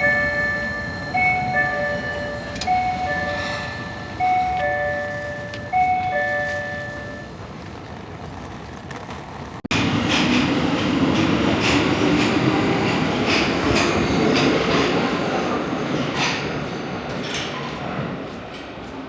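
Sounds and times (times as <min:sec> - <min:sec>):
wheels clacking over rail joints: 0:00.0 - 0:18.8
train rumbling on rails: 0:00.0 - 0:19.0.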